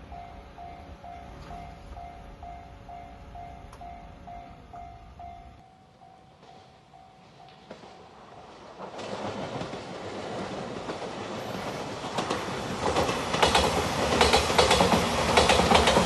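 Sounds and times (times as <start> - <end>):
electric train approaching: 0.0 - 16.0.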